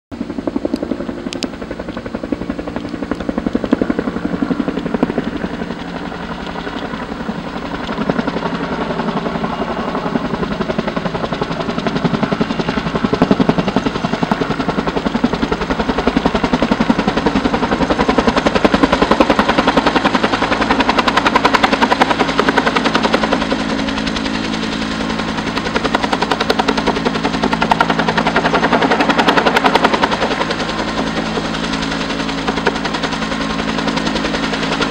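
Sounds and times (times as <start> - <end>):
helicopter rotor blades chopping: 0.1 - 34.9.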